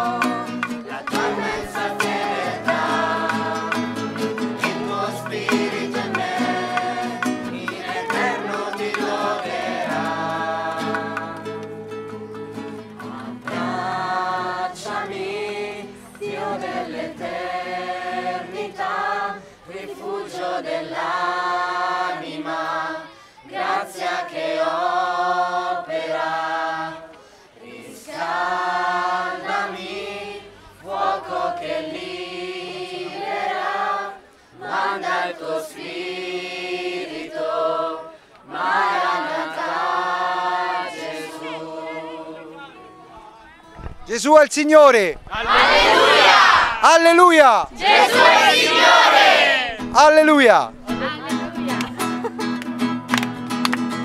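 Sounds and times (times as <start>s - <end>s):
group singing without instruments: 0.0s - 44.1s, 45.2s - 52.0s.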